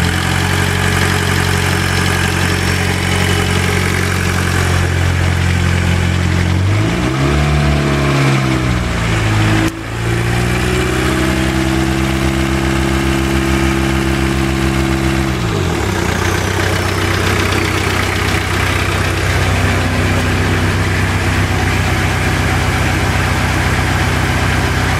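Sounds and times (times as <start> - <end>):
engine ticking knock: 0.0 - 6.8, 10.3 - 24.9
diesel engine idling and revving: 0.0 - 24.9.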